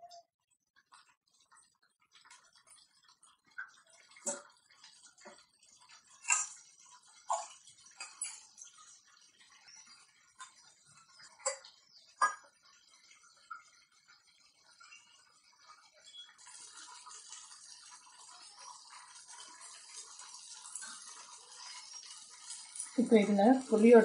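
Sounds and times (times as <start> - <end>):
thick gravy bubbling in a pot: 0.1 - 24.0.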